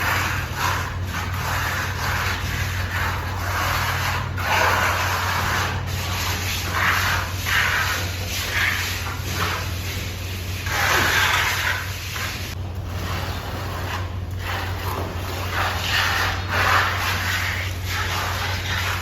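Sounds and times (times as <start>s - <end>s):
steady low hum: 0.0s - 19.0s
trowel scraping plaster: 0.0s - 19.0s.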